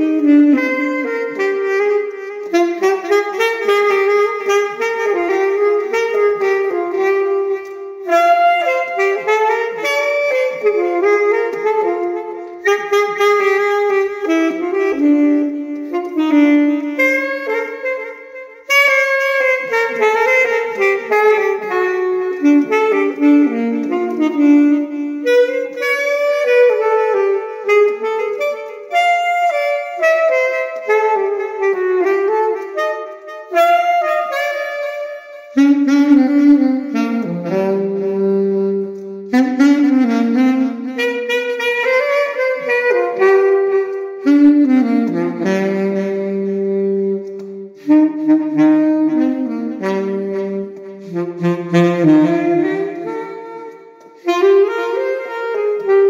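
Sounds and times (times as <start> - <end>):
bebop jazz with saxophone: 0.0 - 56.0.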